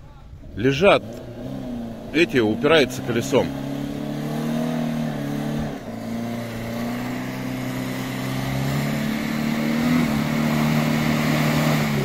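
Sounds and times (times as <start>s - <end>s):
engine labouring under load: 0.0s - 12.0s.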